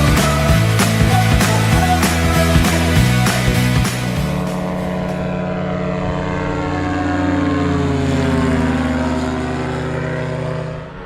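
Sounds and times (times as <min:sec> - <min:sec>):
propeller aircraft droning: 0:00.0 - 0:11.0.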